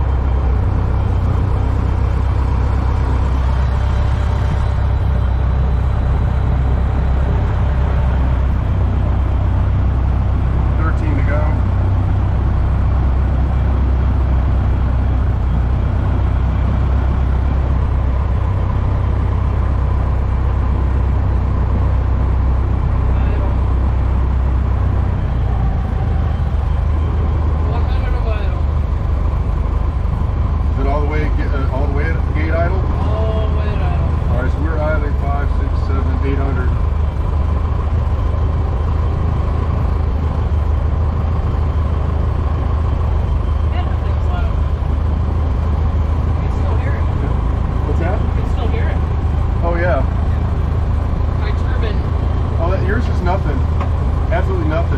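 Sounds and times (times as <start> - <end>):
aircraft engine and propeller droning: 0.0 - 54.9.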